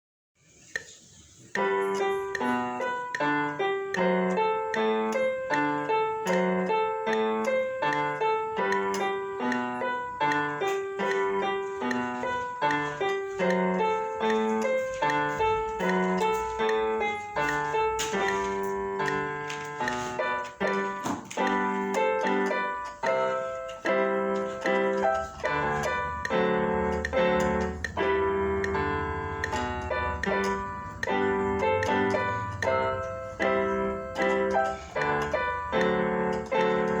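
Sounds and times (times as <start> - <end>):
lively folk piano piece: 0.7 - 37.0.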